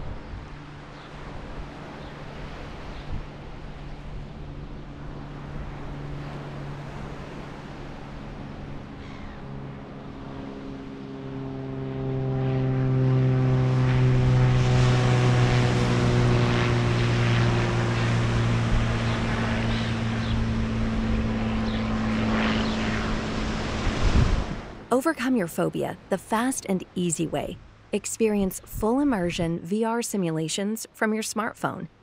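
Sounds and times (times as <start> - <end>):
passing engine drone: 0.0 - 29.6.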